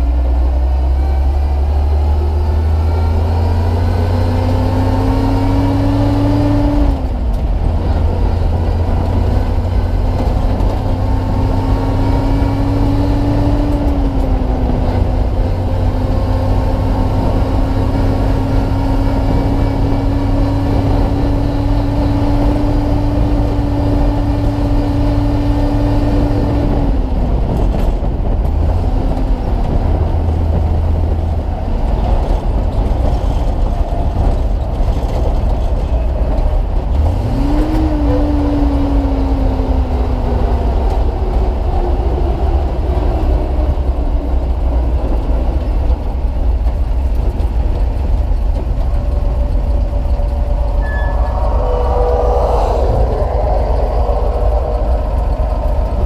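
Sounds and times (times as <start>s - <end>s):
road noise: 0.0s - 56.0s
truck engine pulling: 1.2s - 56.0s.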